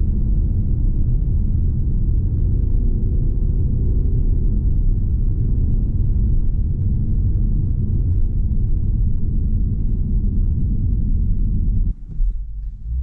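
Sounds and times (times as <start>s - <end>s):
car engine cruising: 0.0s - 13.0s
road and wind noise: 0.0s - 13.0s.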